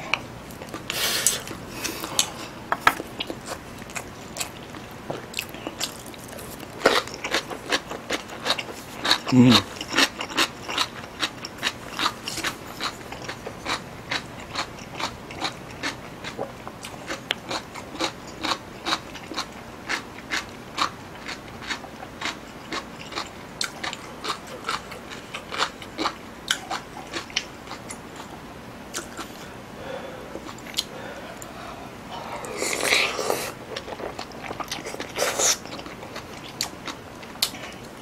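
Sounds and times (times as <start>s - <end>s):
chewing food with clicks: 0.1s - 29.3s, 33.7s - 38.0s.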